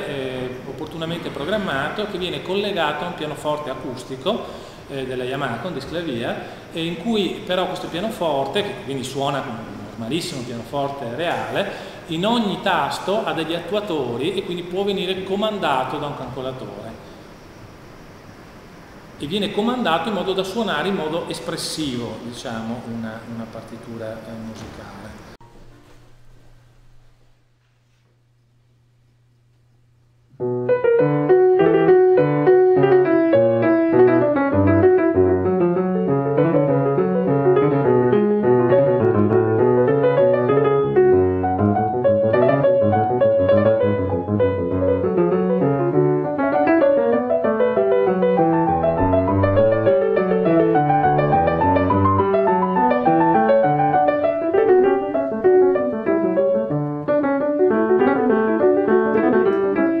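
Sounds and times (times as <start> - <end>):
acoustic piano playing: 0.0 - 18.0, 19.1 - 26.4, 30.3 - 60.0.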